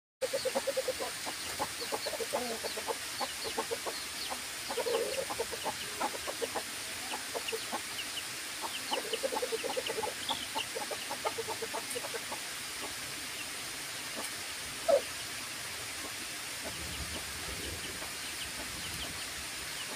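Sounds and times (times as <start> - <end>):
chickens clucking: 0.2 - 13.0, 14.1 - 15.2, 15.9 - 19.9.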